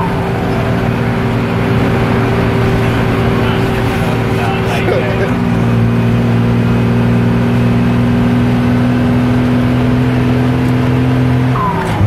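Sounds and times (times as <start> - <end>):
vehicle engine cruising: 0.0 - 12.0.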